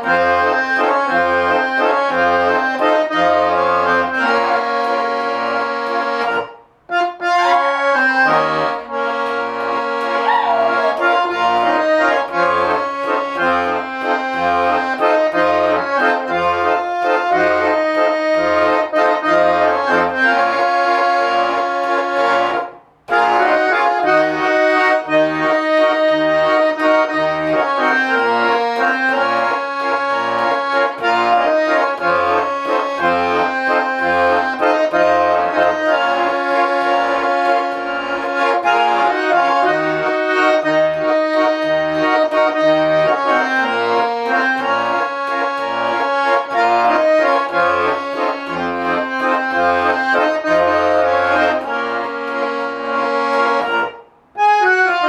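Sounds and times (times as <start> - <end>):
button accordion melody: 0.0 - 55.0.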